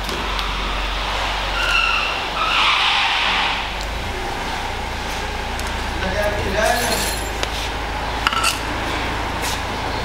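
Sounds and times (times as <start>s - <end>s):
low workshop hum: 0.0s - 10.0s.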